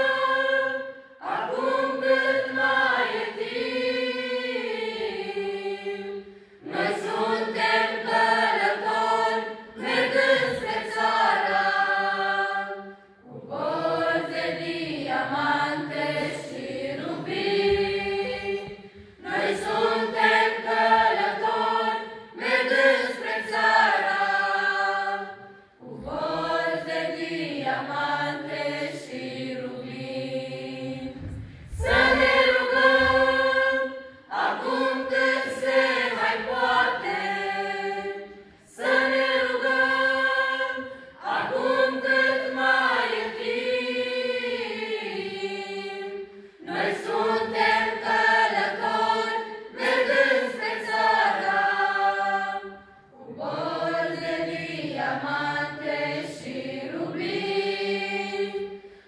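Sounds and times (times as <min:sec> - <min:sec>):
women's choir singing unaccompanied: 0:00.0 - 0:59.0.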